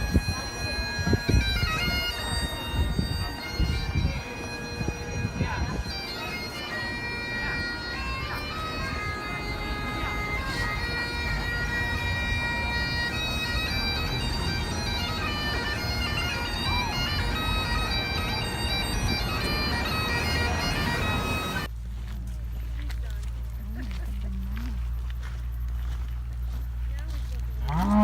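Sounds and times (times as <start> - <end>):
bagpipes playing a tune: 0.0 - 28.0.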